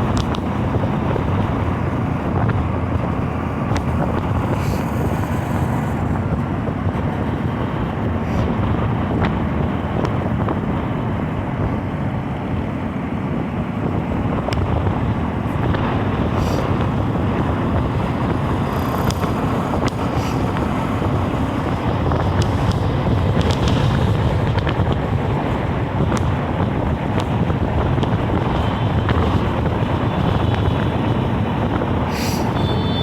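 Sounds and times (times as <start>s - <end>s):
low vehicle rumble: 0.0s - 33.0s
wind buffeting microphone: 0.0s - 33.0s.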